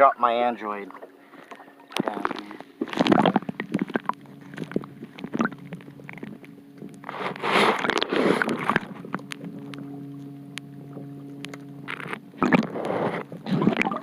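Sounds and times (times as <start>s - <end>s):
water rushing and bubbling: 0.7s - 14.0s.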